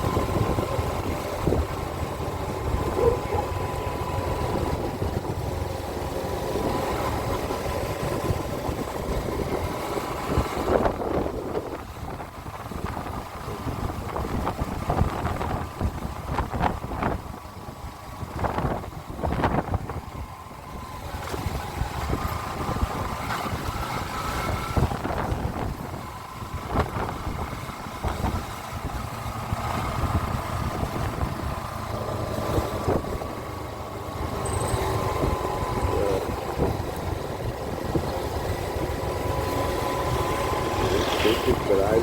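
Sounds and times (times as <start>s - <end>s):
motorcycle engine running: 0.0s - 42.0s
wind rumbling on microphone: 0.0s - 42.0s.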